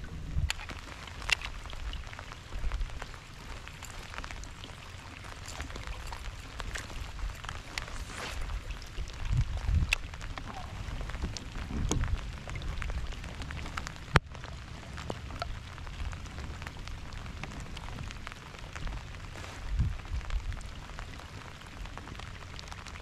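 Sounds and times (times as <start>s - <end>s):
low rumbles: 0.0s - 22.9s
close raindrops ticking: 0.0s - 23.0s
steady rain falling: 0.0s - 23.0s.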